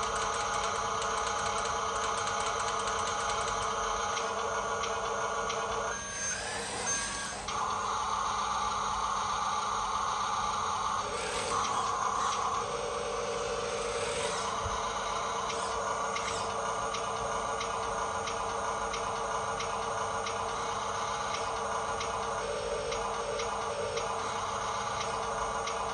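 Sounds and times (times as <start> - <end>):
toy motor and gears whirring: 0.0 - 25.9.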